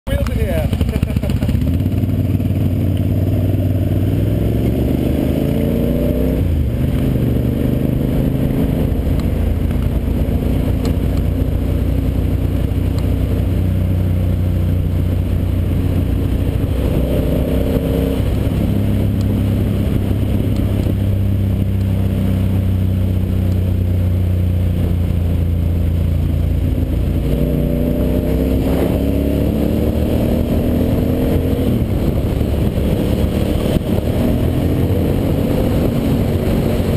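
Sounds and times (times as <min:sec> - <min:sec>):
motorcycle engine accelerating: 0:00.1 - 0:36.9.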